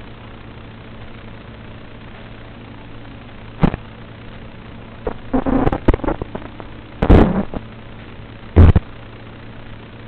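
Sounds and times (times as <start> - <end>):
low electrical hum: 0.0 - 10.0
crackling bursts: 0.4 - 9.3.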